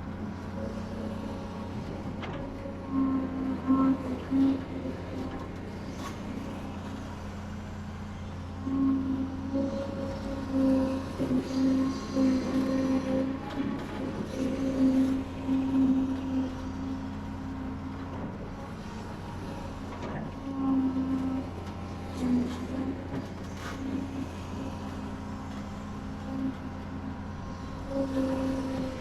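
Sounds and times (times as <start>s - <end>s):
diesel engine drone: 0.0s - 29.0s.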